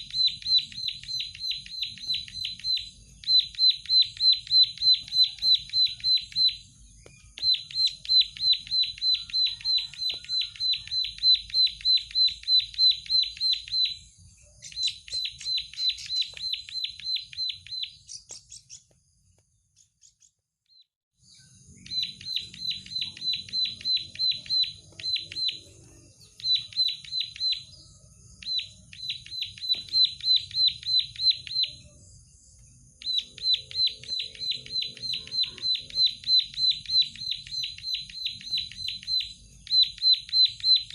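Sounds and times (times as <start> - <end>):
bird singing high repeated chips: 0.0 - 40.9.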